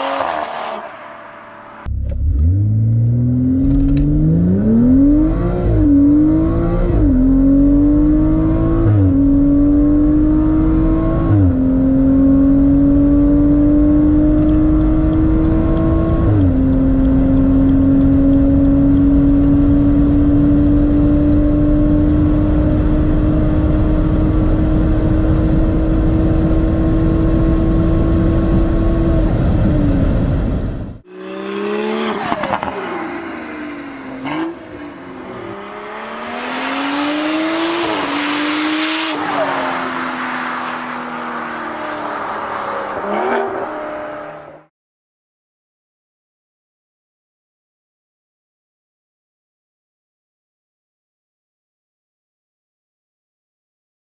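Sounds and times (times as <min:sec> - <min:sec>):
car engine accelerating: 0:00.0 - 0:44.7.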